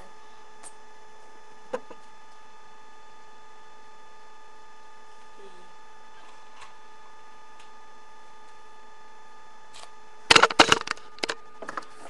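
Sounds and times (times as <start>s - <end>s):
electrical hum with whining tones: 0.0s - 12.0s.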